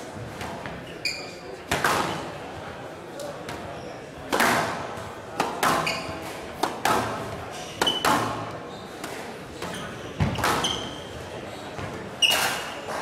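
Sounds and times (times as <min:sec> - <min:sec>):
racket hitting squash ball: 0:01.6 - 0:02.4, 0:03.4 - 0:13.0.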